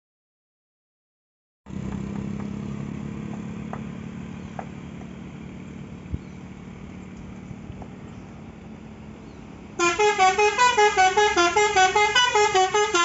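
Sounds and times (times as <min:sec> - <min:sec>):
vehicle engine humming: 0:01.7 - 0:13.0.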